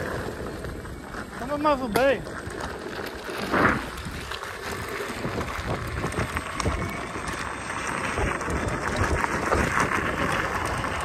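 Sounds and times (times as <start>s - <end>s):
tyre rolling over gravel: 0.0s - 11.0s
wind buffeting microphone: 0.0s - 11.0s.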